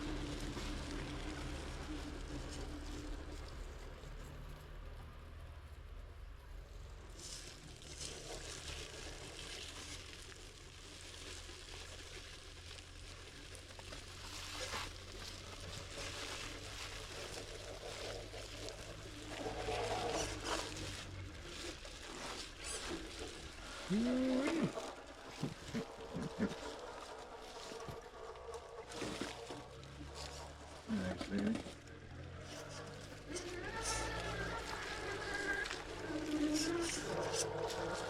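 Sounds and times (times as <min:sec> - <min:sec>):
water trickling over rock: 0:00.0 - 0:38.0.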